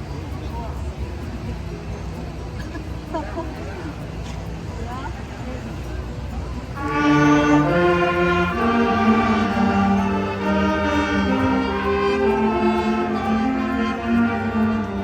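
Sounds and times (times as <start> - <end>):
wind band playing held chords: 0.0 - 15.0.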